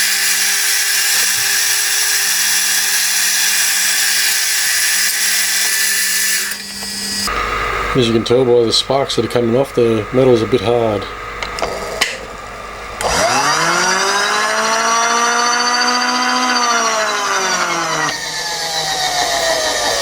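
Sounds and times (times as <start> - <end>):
grinding wheel grinding steel: 0.0 - 20.0
loud grinding whine: 0.0 - 20.0.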